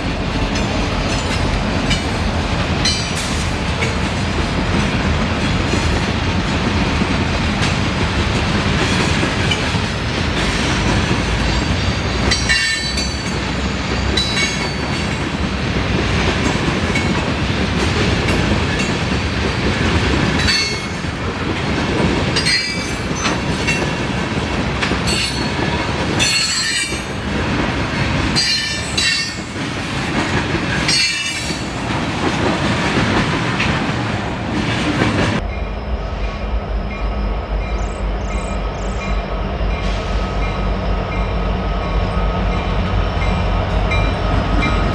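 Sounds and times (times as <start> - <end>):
train rumbling on rails: 0.0 - 44.9.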